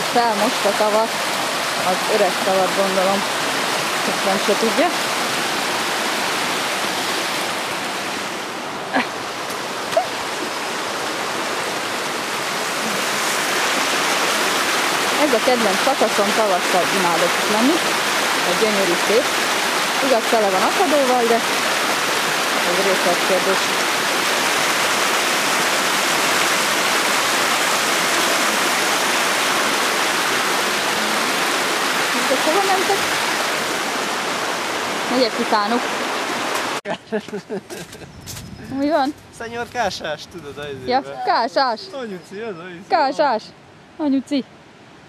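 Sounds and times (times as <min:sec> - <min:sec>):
stream water rushing and splashing: 0:00.0 - 0:38.1, 0:38.8 - 0:45.0.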